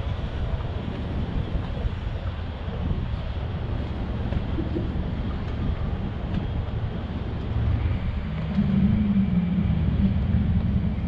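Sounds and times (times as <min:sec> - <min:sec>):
boat engines humming: 0:00.0 - 0:11.0.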